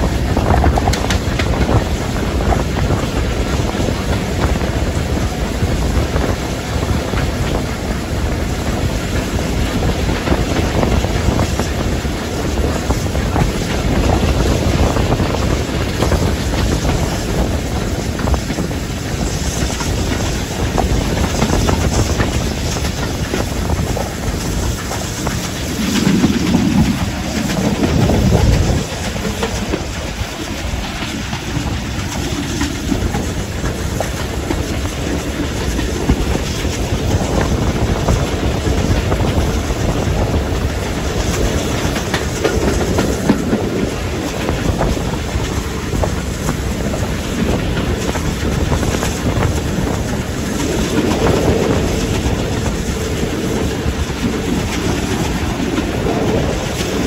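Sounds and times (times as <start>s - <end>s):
train wheels clattering over track: 0.0s - 57.0s
wind buffeting microphone: 0.0s - 57.0s.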